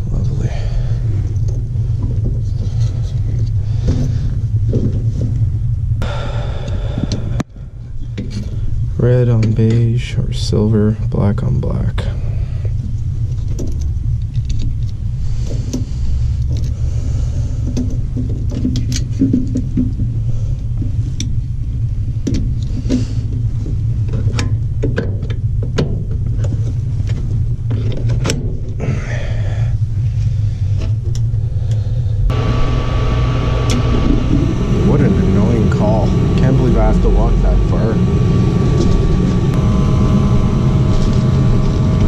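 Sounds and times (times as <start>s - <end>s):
gas furnace low rumble: 0.0s - 42.0s.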